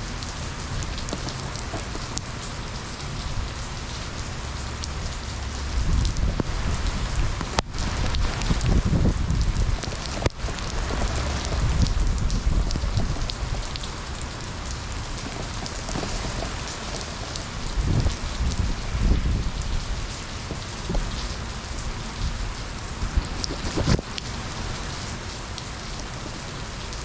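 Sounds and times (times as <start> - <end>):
low thunder rumble: 0.0 - 24.0
heavy rain: 0.0 - 27.0.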